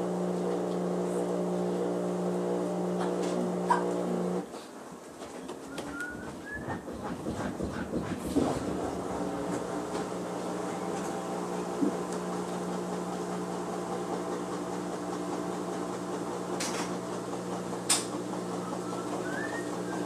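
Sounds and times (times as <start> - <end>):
washing machine motor hum: 0.0 - 4.4, 5.9 - 20.0.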